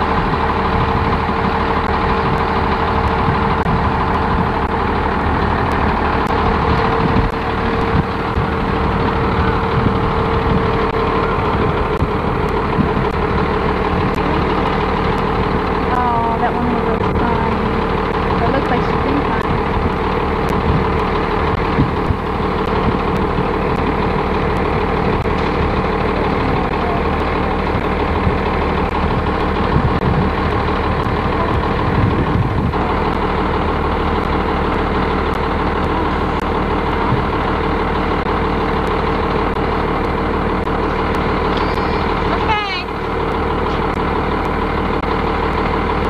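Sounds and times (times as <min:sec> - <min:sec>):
bus engine idling: 0:00.0 - 0:46.0.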